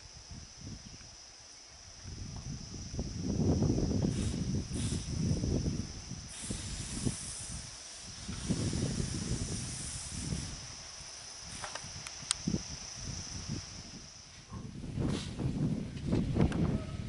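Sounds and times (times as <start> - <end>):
high-pitched insect hiss: 0.0 - 17.0.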